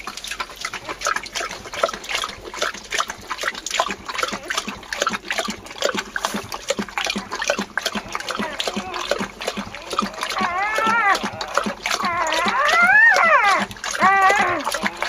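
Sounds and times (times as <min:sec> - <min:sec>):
dog lapping and slurping: 0:00.0 - 0:15.0.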